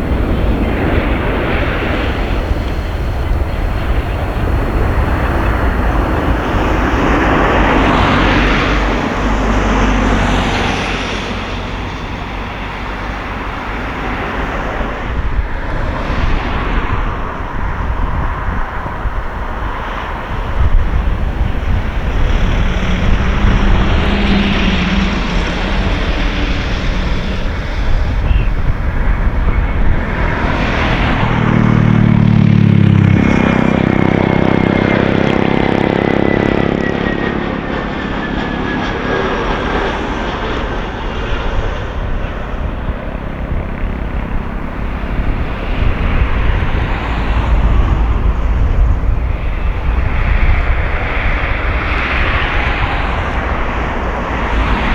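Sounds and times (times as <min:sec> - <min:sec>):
jet airliner engine noise: 0:00.0 - 0:54.9
low steady engine hum: 0:00.0 - 0:54.9.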